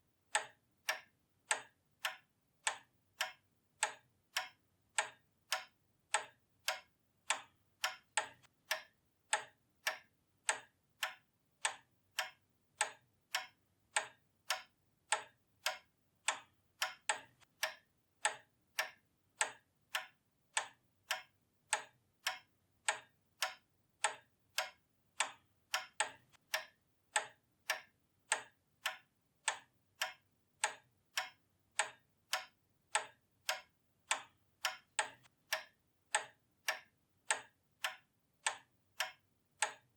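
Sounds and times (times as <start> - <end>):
pendulum clock ticking: 0.0 - 39.9.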